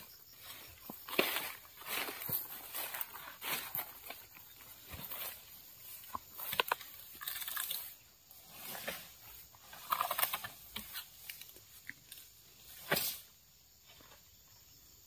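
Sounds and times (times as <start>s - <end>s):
palm frond dragged through undergrowth: 0.2s - 13.3s.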